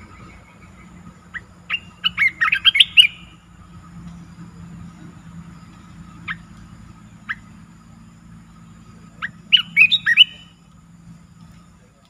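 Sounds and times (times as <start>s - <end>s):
bird calling with chirped notes: 0.0s - 12.0s.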